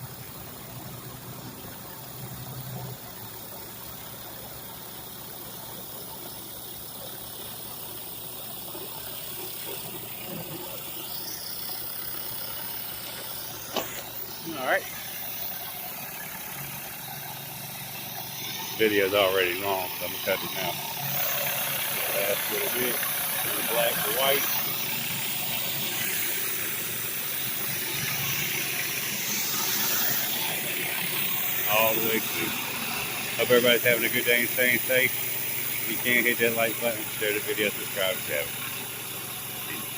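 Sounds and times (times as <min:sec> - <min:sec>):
low engine hum: 0:00.0 - 0:39.9
pressure washer spraying concrete: 0:00.0 - 0:39.9.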